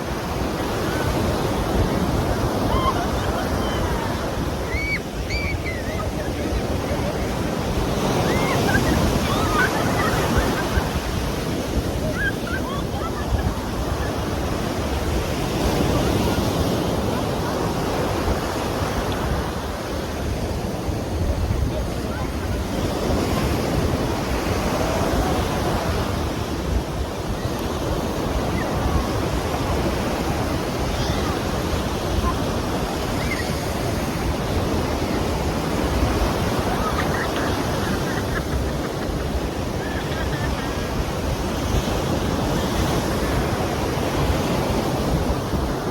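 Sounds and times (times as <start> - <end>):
ocean surf breaking ashore: 0.0 - 45.9.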